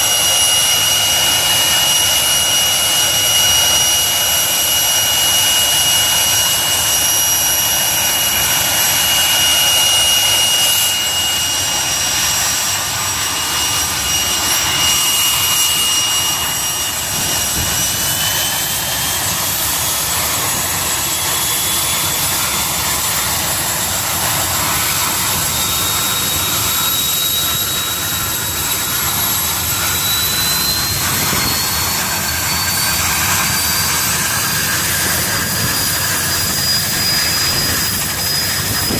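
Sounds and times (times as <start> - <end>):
helicopter turbine engines whining: 0.0 - 38.9.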